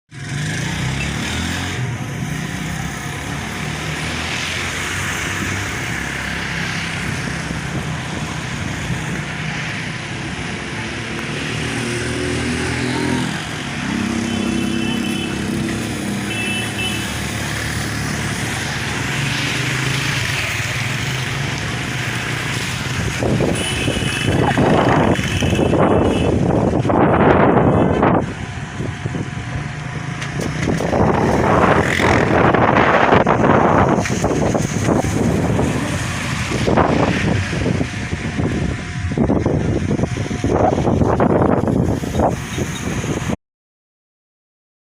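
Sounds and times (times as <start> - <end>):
road noise: 0.1 - 43.4.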